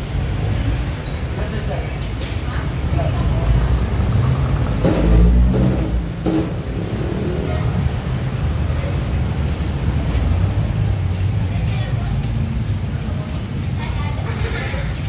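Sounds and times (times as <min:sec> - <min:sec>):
motor vehicle rumble: 0:00.0 - 0:15.0
faint voices: 0:00.5 - 0:05.3, 0:06.6 - 0:15.0.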